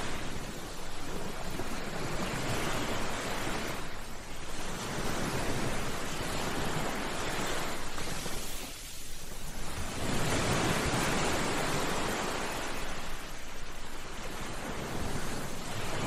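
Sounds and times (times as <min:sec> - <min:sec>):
ocean waves on beach: 0:00.0 - 0:16.0.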